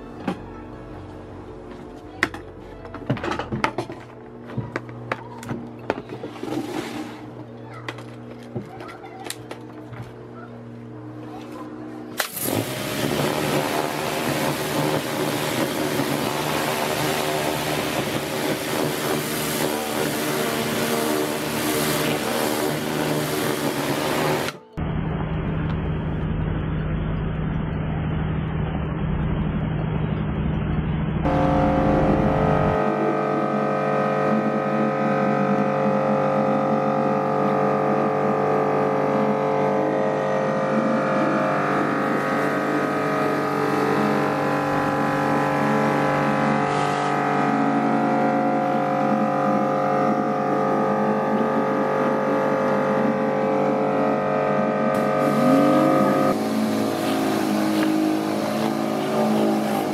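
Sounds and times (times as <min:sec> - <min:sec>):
pressure washer running: 0:03.1 - 0:29.9, 0:31.3 - 0:59.9.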